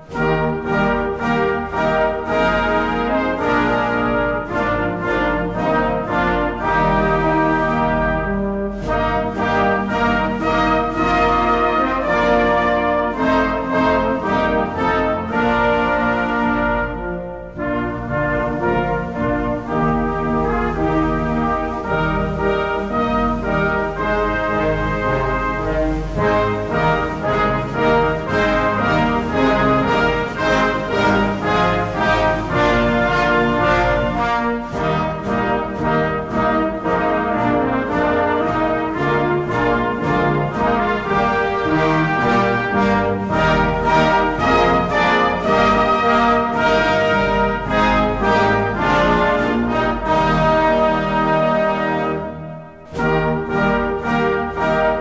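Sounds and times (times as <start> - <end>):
slow brass music: 0.0 - 55.0.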